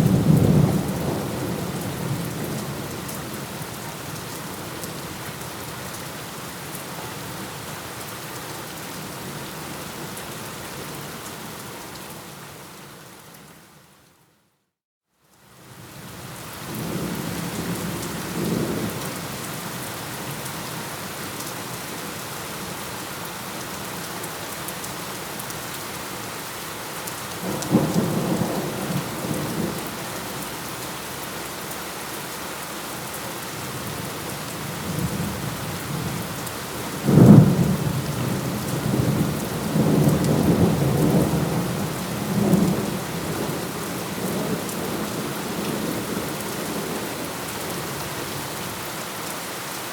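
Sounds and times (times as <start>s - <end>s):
heavy rain: 0.0s - 13.0s, 15.4s - 49.9s.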